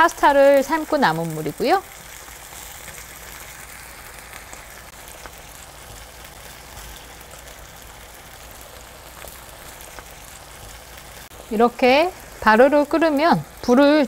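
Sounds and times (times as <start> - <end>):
water sizzling in frying pan: 0.0 - 14.0.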